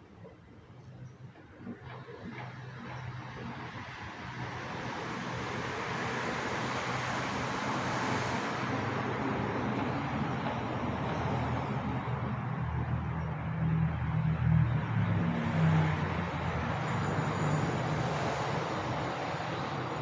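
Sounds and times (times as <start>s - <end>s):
engine and road noise: 0.5s - 20.0s.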